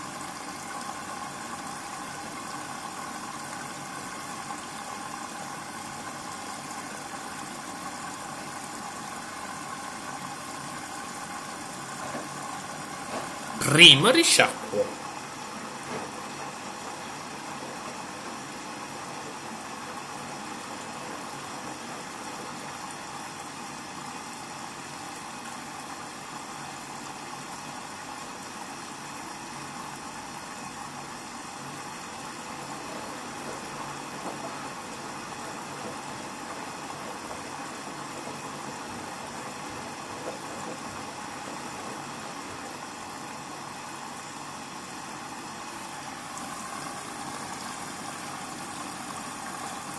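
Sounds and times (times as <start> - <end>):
washing machine humming with whine: 0.0 - 13.6, 15.1 - 49.9.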